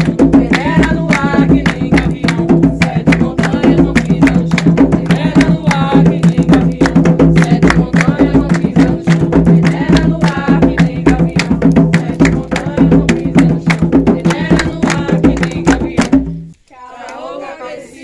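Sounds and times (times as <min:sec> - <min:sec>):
hand drums beating fast rhythm: 0:00.0 - 0:16.5
people singing: 0:00.0 - 0:18.0.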